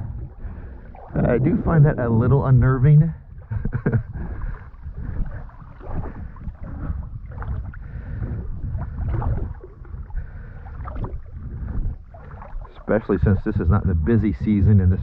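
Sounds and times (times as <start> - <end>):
water sloshing and splashing: 0.0 - 15.0
wind on microphone: 0.0 - 15.0.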